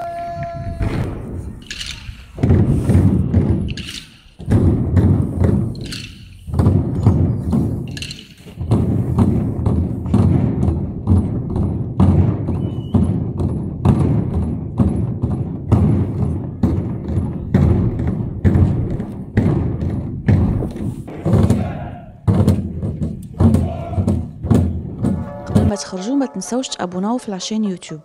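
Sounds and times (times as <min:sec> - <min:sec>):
heavy drums beating: 0:00.0 - 0:26.6.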